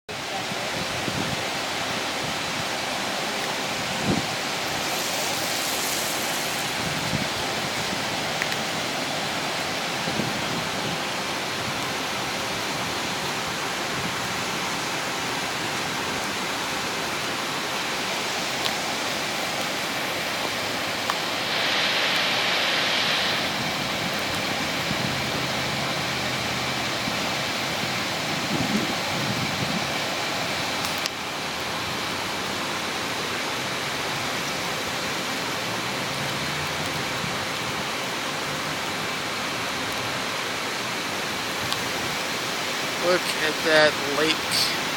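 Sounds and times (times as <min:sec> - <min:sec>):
rushing floodwater: 0:00.1 - 0:44.9.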